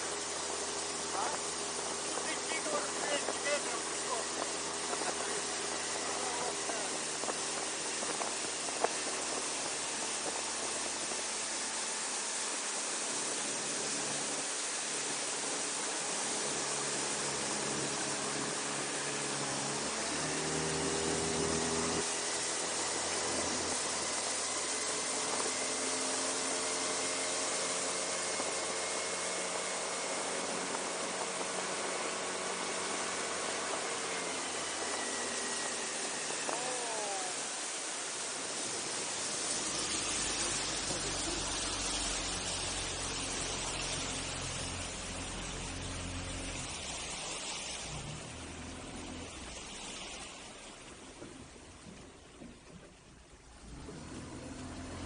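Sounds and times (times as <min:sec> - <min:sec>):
outboard motor drone: 0:00.0 - 0:55.0
wind and water rush: 0:00.0 - 0:55.0.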